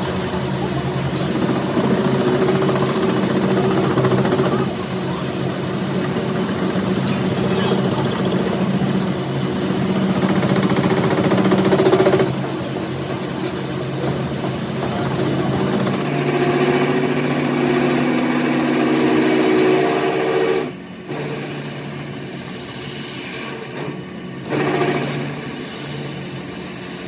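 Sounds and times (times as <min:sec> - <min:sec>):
machine motor humming drone: 0:00.0 - 0:27.0.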